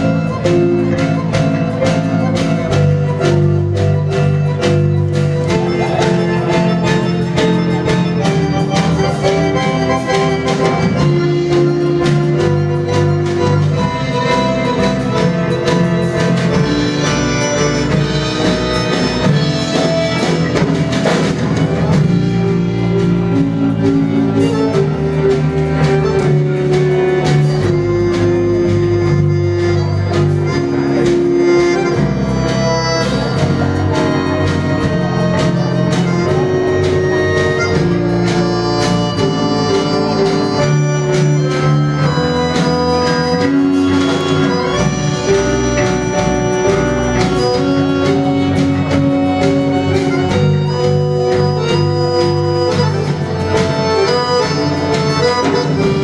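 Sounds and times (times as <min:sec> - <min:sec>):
accordion melody: 0:00.0 - 0:56.0
drum beat: 0:00.0 - 0:56.0
electric bass guitar: 0:00.0 - 0:56.0
keyboard piano: 0:00.0 - 0:56.0.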